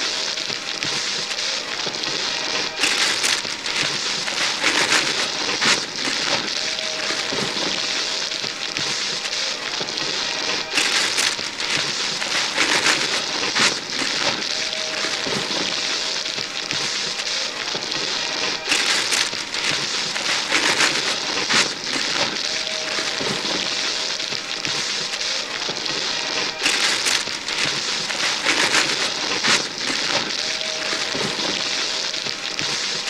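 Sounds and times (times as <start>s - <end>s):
paper ripping: 0.0s - 33.0s
wrapping paper crackling and rustling: 0.0s - 33.0s.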